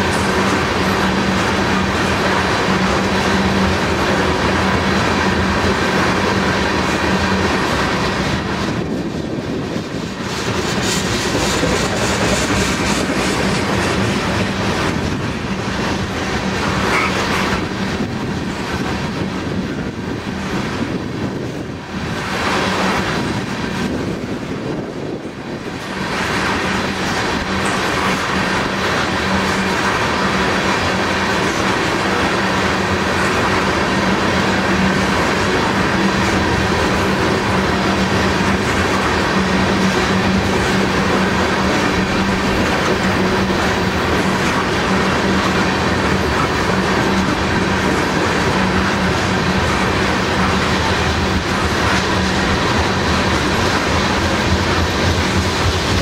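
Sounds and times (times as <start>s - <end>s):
tank cars rolling on rails: 0.0s - 56.0s.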